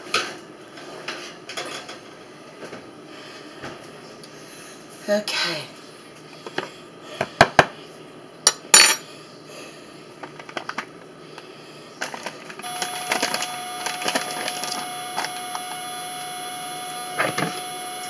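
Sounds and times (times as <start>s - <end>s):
hum with thin whine: 0.0s - 18.0s.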